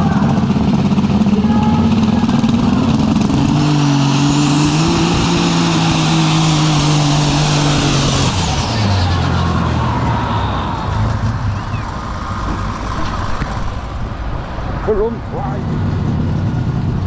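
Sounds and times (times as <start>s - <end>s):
diesel tractor engine at full power: 0.0s - 17.0s
high turbo whine: 0.0s - 17.0s.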